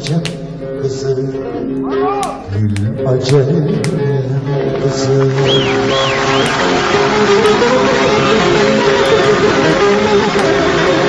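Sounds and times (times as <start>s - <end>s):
steady musical accompaniment: 0.0s - 11.0s
plucked string instrument melody: 0.1s - 11.0s.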